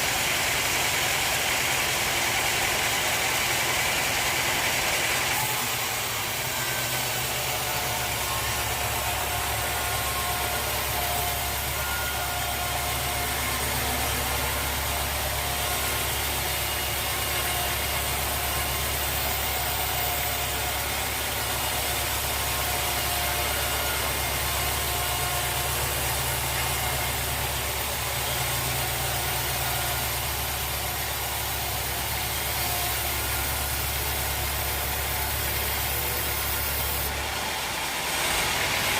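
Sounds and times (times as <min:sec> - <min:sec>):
sawmill machinery drone: 0:00.0 - 0:38.9
faint machine whine: 0:05.1 - 0:38.5.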